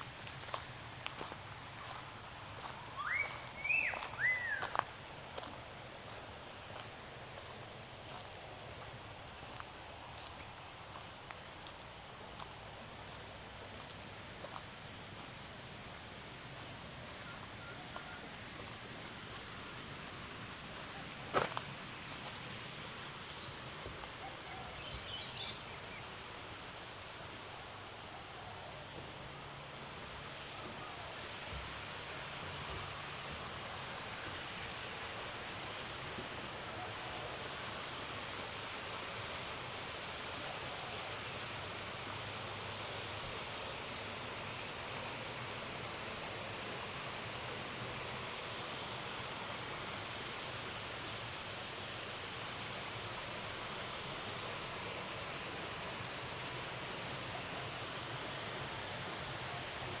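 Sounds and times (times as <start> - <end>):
water rushing: 0.0 - 60.0.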